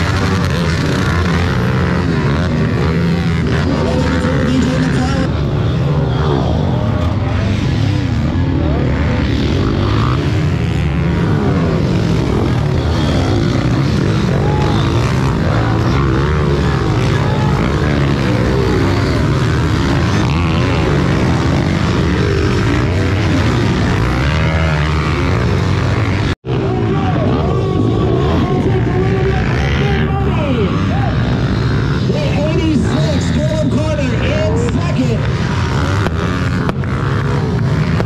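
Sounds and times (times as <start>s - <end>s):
small motorcycle engines revving: 0.0s - 38.0s.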